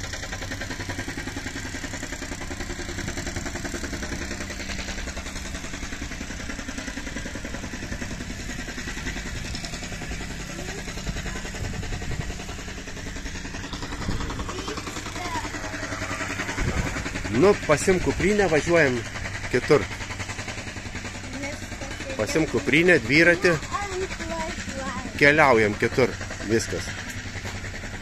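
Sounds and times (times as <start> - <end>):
engine running with fast pulsing: 0.0 - 28.0.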